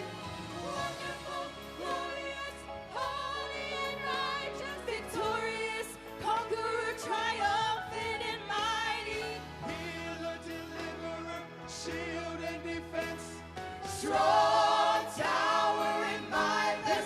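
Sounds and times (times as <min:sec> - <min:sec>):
low musical accompaniment: 0:00.0 - 0:17.0.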